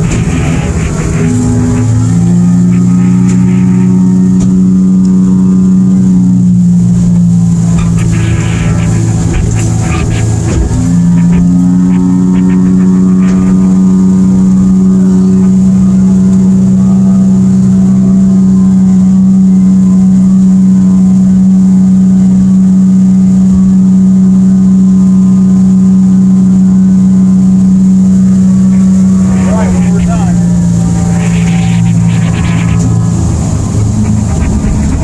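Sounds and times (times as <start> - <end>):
outboard engine drone: 0.0 - 35.0.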